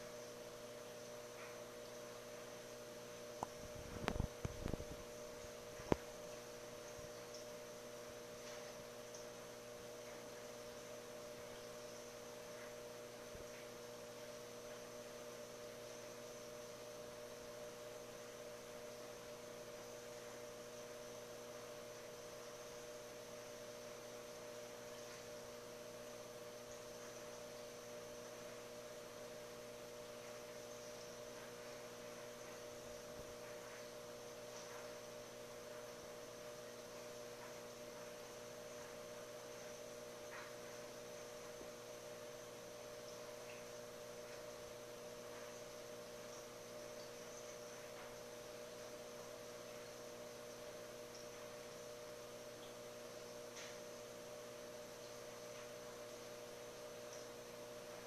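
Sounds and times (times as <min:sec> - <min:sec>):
aquarium equipment hum: 0:00.0 - 0:58.0.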